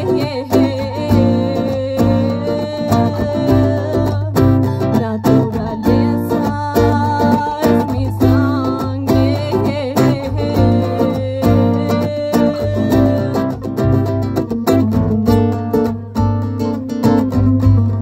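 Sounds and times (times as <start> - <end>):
cajon beat: 0.0 - 18.0
electric guitar melody: 0.0 - 18.0
strummed acoustic guitar: 0.0 - 18.0.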